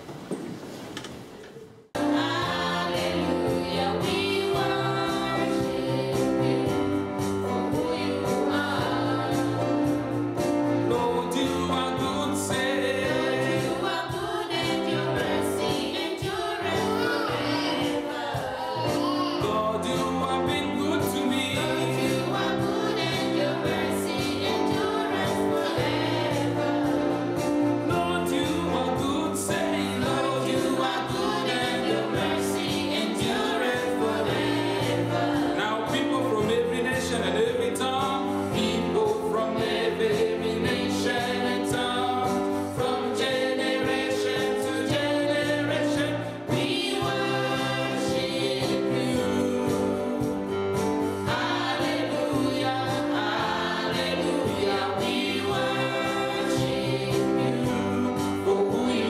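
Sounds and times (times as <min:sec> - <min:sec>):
choir singing worship song: 0:01.9 - 0:59.0.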